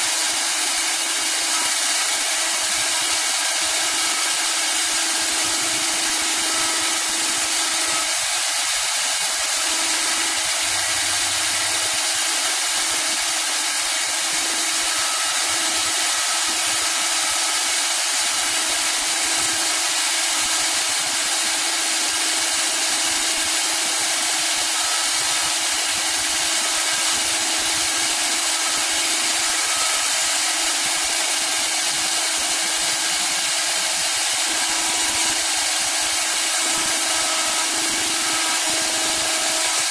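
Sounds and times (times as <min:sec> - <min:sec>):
hiss of cutting wood: 0:00.0 - 0:39.9
spindle motors humming: 0:00.0 - 0:39.9.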